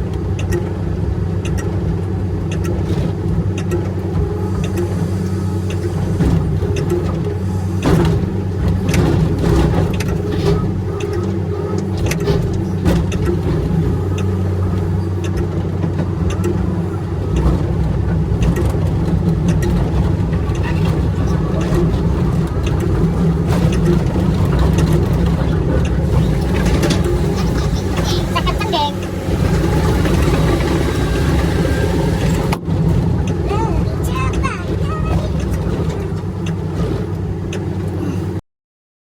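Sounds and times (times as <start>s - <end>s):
diesel engine running: 0.0s - 38.4s.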